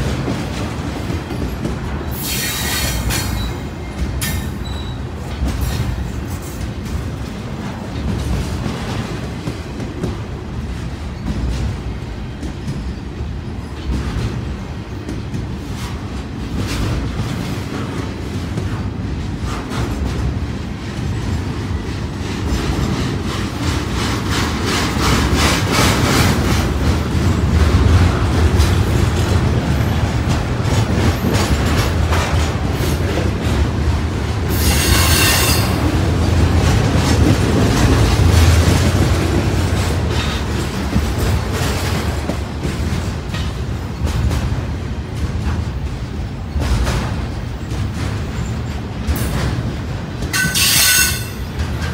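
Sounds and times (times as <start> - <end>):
train wheels rumbling: 0.0 - 51.9.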